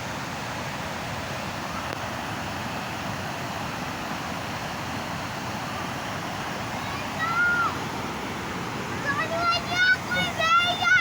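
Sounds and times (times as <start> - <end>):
waterfall roar: 0.0 - 11.0.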